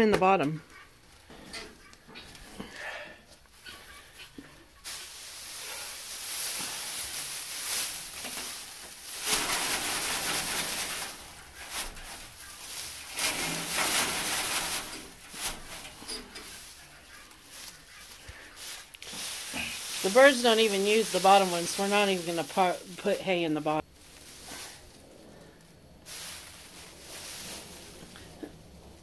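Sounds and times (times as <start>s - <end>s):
dry hay rustling and crackling: 0.4s - 29.0s.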